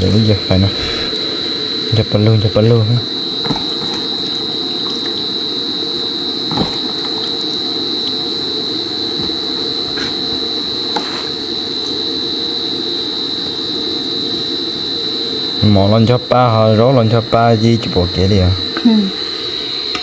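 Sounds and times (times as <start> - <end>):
high-pitched whine: 0.0 - 20.0
water boiling in a pot: 0.0 - 20.0.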